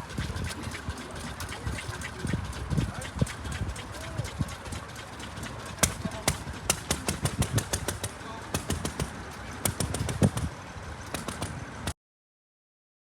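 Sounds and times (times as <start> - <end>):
old motorcycle engine popping: 0.0 - 10.5, 11.1 - 11.6.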